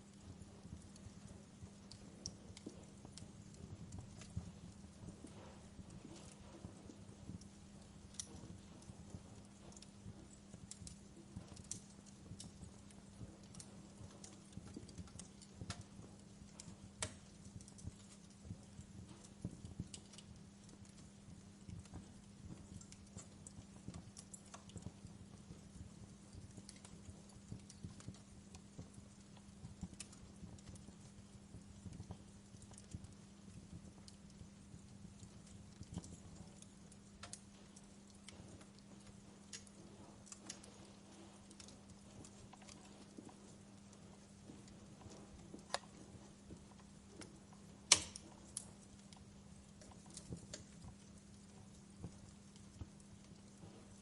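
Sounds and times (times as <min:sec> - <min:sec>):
faint low hum: 0:00.0 - 0:54.0
wood fire crackling: 0:00.0 - 0:54.0.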